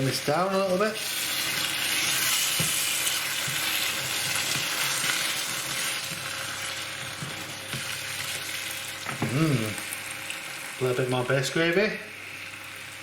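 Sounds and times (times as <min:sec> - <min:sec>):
sauce sizzling in a frying pan: 0:00.0 - 0:13.0.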